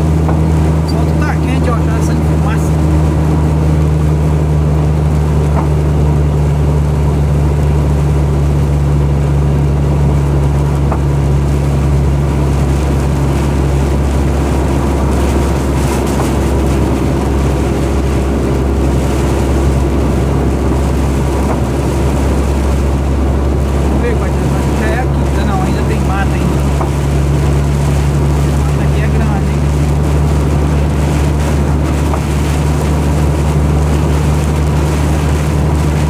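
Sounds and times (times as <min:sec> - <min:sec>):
road noise: 0:00.0 - 0:36.0
vehicle engine running: 0:00.0 - 0:36.0.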